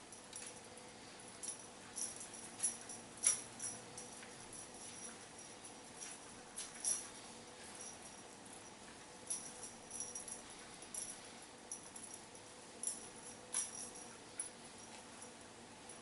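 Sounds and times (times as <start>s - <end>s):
metal jewellery jingling: 0.0s - 15.3s.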